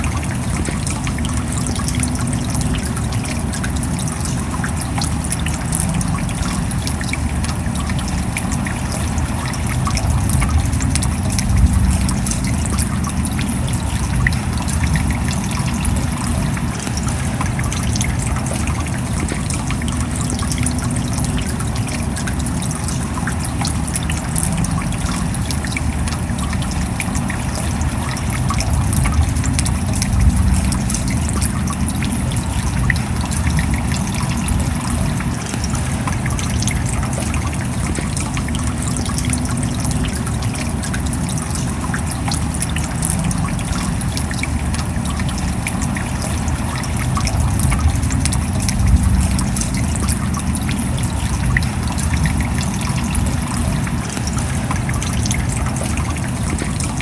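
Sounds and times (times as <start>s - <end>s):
steady rain: 0.0s - 57.0s
water trickling: 0.0s - 57.0s.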